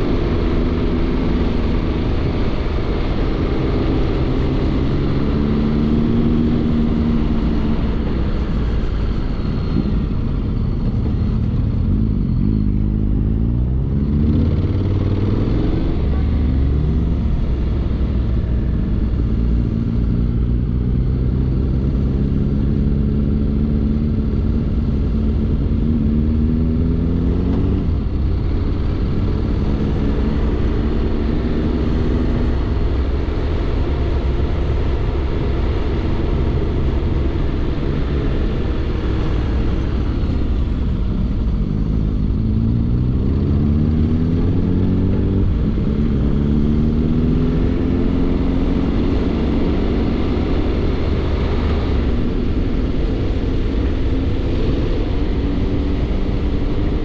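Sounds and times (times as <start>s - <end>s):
road rumble: 0.0s - 57.0s.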